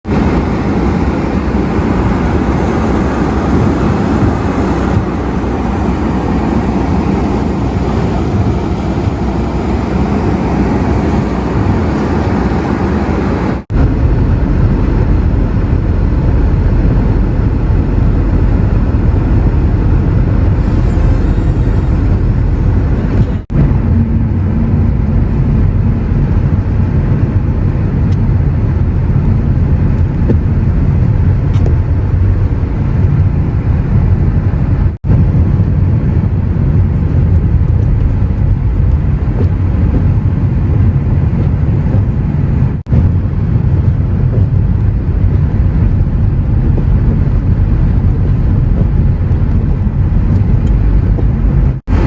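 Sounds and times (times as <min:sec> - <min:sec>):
car road and wind noise: 0:00.0 - 0:52.0.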